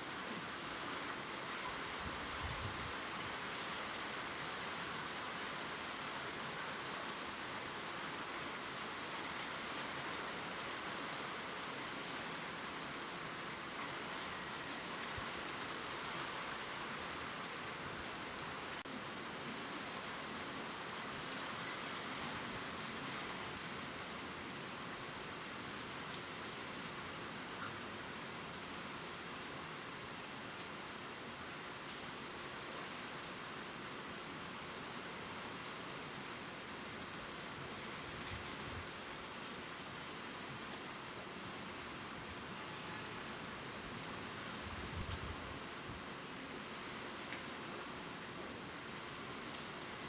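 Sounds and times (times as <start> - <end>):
rain pattering on leaves: 0.0 - 50.0.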